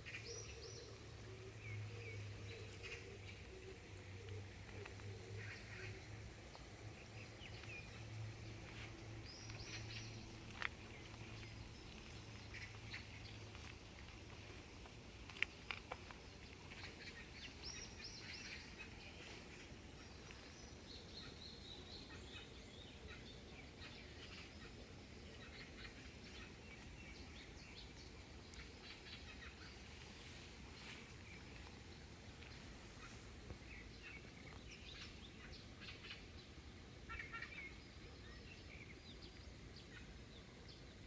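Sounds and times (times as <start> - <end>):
birds chirping and trilling: 0.0 - 40.8.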